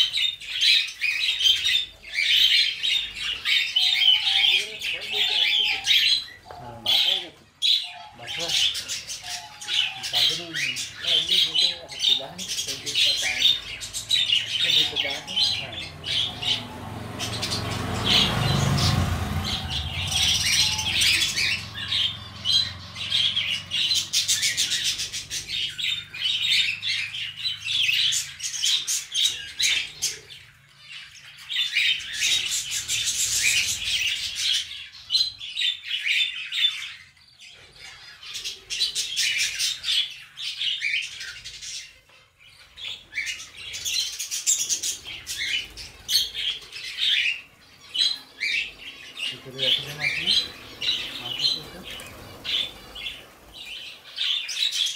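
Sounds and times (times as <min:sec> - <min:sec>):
budgerigars chattering: 0:00.0 - 0:54.9.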